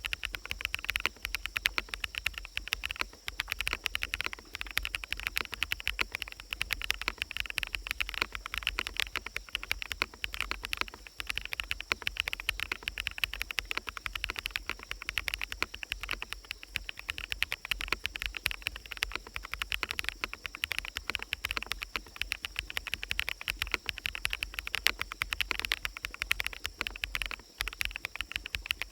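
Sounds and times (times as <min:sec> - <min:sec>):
high insect-like tone: 0:00.0 - 0:28.9
mechanical keyboard typing: 0:00.0 - 0:28.9.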